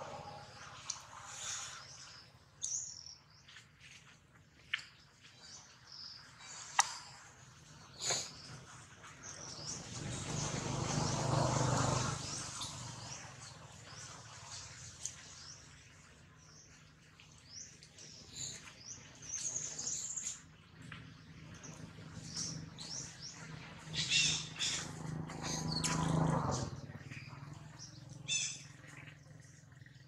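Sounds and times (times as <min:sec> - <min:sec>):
small birds chirping: 0:00.5 - 0:30.0.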